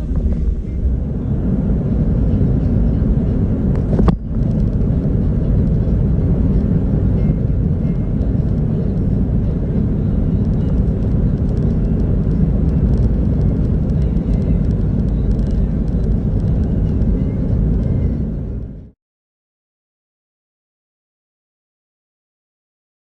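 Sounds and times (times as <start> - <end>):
engine and tyres rumbling: 0.0 - 19.0.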